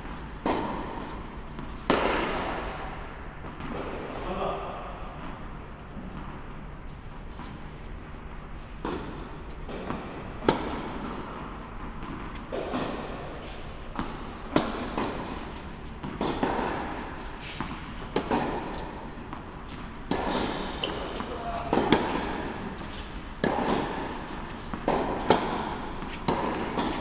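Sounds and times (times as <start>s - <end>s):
tennis balls struck by rackets: 0.0s - 4.1s, 8.8s - 27.0s.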